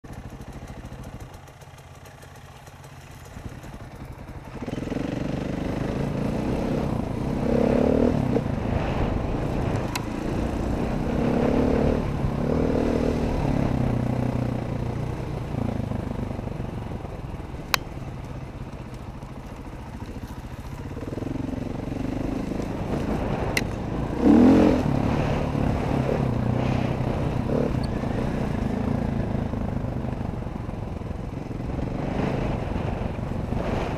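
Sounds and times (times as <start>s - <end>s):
dirt bike engines revving: 0.3s - 33.9s.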